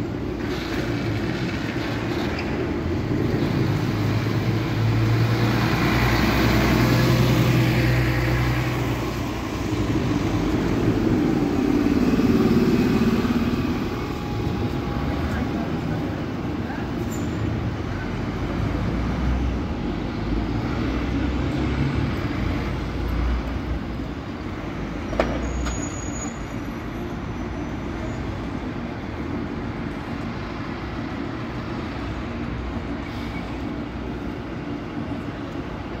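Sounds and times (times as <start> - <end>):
bus engine pulling away: 0.0 - 36.0
traffic noise: 0.0 - 36.0.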